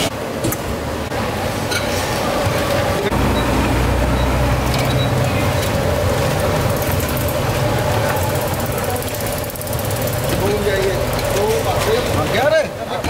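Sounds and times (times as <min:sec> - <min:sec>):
passing vehicles rumbling: 0:00.8 - 0:12.5.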